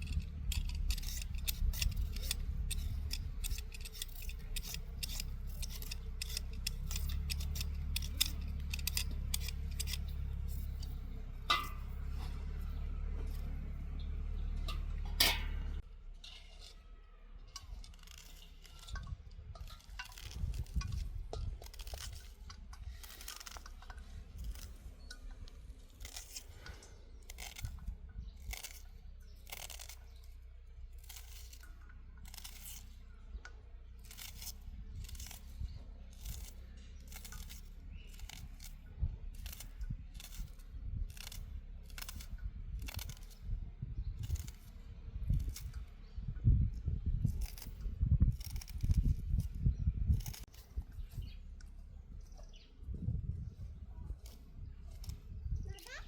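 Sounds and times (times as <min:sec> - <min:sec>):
crisp crunching strokes: 0:00.0 - 0:33.1, 0:33.9 - 0:43.5, 0:44.2 - 0:45.8, 0:47.2 - 0:51.3
low rumble: 0:00.0 - 0:55.8.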